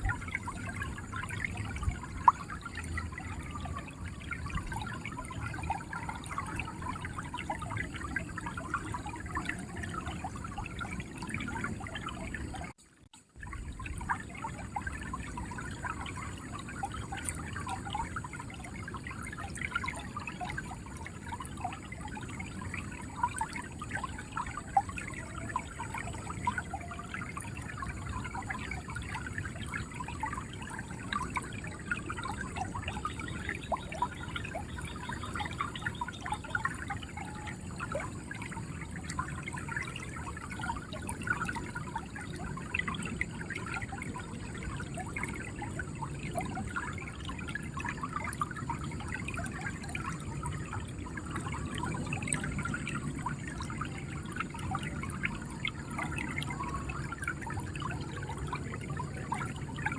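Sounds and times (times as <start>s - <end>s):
river water flowing and gurgling: 0.0s - 59.9s
small trickling splashes: 0.0s - 59.9s.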